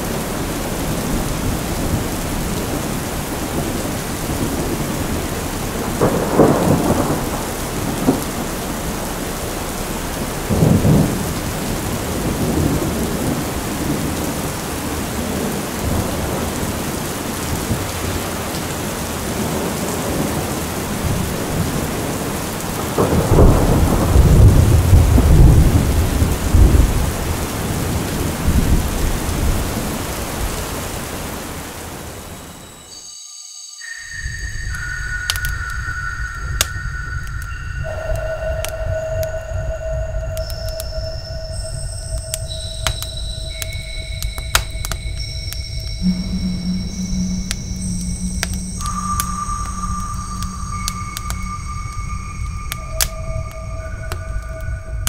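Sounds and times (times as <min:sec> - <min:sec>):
thunder rumbling: 0:00.0 - 0:32.4, 0:34.2 - 0:55.0
heavy rain hissing: 0:00.0 - 0:33.0, 0:33.8 - 0:55.0.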